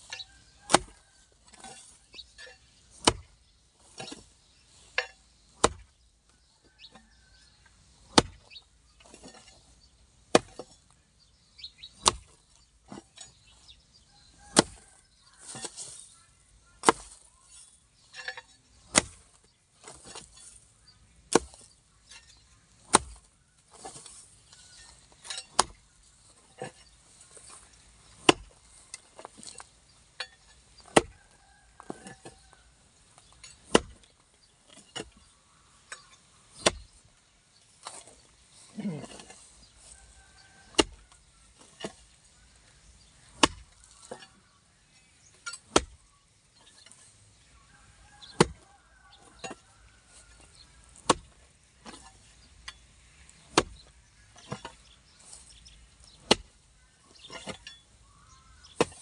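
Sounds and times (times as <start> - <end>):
hoe chopping into soil: 0.0 - 11.0, 11.8 - 16.2, 16.8 - 59.0
earth and grass rustling: 0.0 - 59.0.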